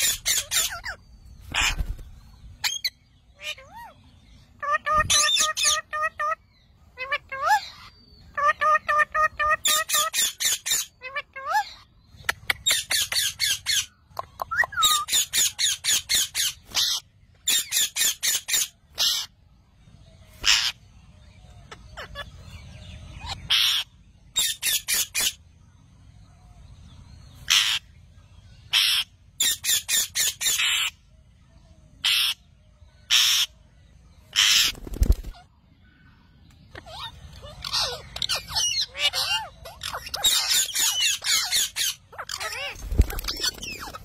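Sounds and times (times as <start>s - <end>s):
parakeets screeching: 0.0s - 13.9s, 14.5s - 19.4s, 20.3s - 25.4s, 27.4s - 28.0s, 28.6s - 31.1s, 32.0s - 32.4s, 33.0s - 33.6s, 34.3s - 35.5s, 36.7s - 44.0s.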